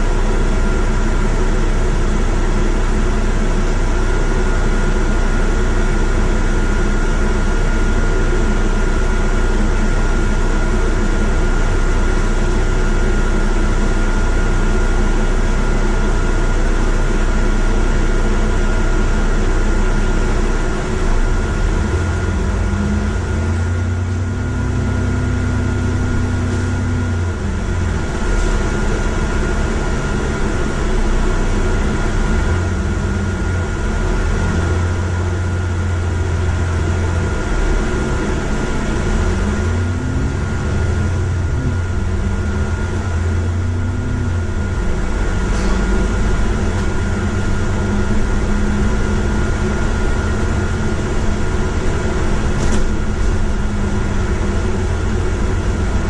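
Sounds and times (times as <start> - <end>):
bus cabin hum: 0.0 - 56.0
bus engine idling and revving: 0.0 - 56.0.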